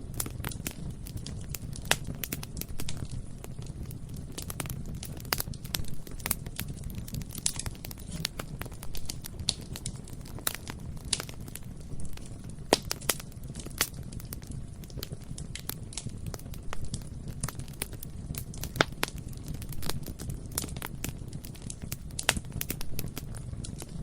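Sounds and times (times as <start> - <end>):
bonfire flame rumble: 0.0 - 24.0
burning wood crackling and popping: 0.0 - 24.0.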